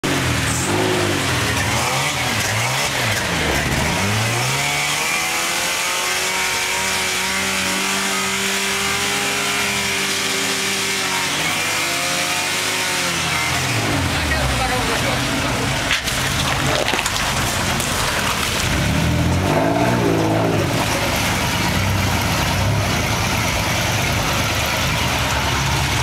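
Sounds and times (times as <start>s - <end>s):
engine revving under load: 0.0s - 26.0s.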